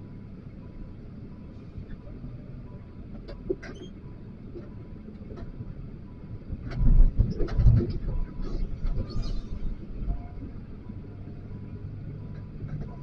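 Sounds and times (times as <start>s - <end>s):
wheel loader diesel rumble: 0.0s - 13.0s.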